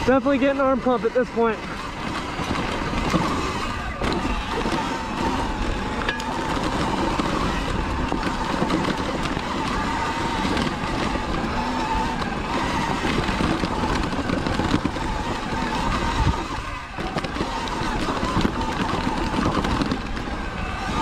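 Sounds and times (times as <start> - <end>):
electric motor whine: 0.0 - 21.0
tyres on rocky dirt: 0.0 - 21.0.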